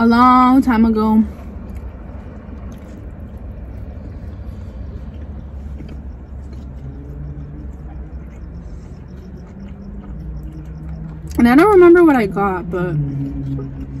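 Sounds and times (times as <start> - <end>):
car engine idling: 0.0 - 14.0
chewing food: 1.2 - 14.0.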